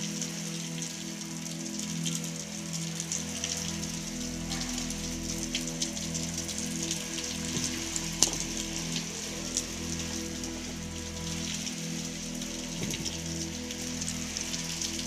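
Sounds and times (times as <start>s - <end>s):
rain on pavement: 0.0s - 15.0s.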